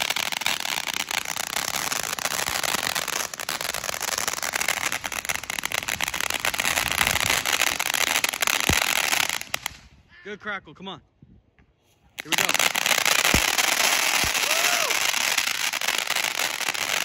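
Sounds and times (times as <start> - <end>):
firework fountain hissing: 0.0 - 9.8, 12.2 - 17.0
sharp crackles: 0.0 - 9.9, 12.2 - 17.0.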